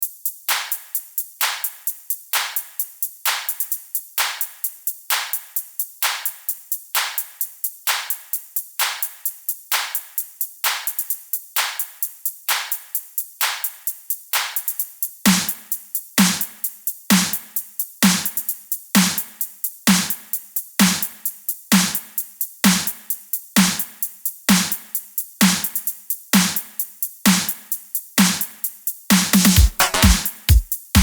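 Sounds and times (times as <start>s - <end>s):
fast hi-hat pattern: 0.0s - 31.0s.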